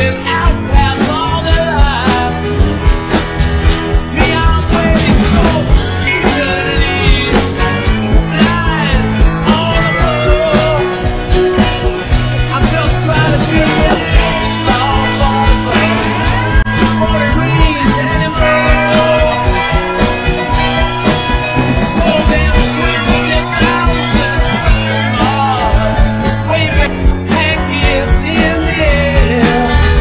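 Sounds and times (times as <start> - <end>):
bass: 0.0 - 30.0
guitar: 0.0 - 30.0
rock song with singer: 0.0 - 30.0
steady drum beat: 0.0 - 30.0.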